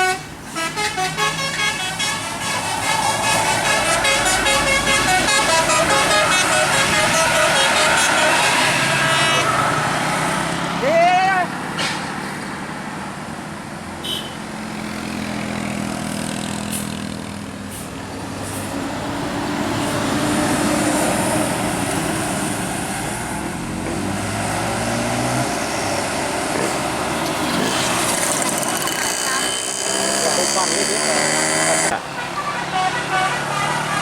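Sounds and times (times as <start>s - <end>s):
bus diesel engine: 0.0s - 34.0s
traffic noise: 0.0s - 34.0s.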